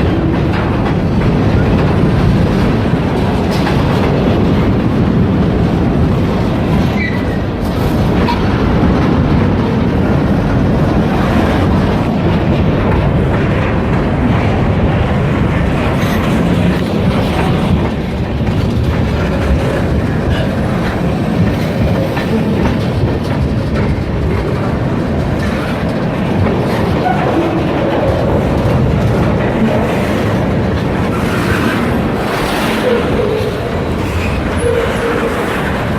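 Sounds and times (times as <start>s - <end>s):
freight train rolling on rails: 0.0s - 35.9s.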